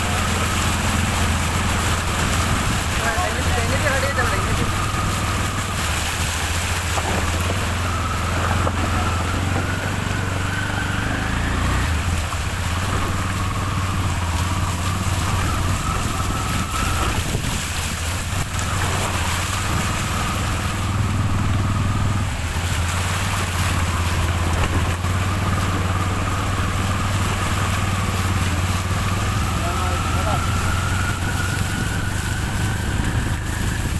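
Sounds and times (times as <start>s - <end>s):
rushing water: 0.0s - 33.9s
small vehicle engine running: 0.0s - 33.9s.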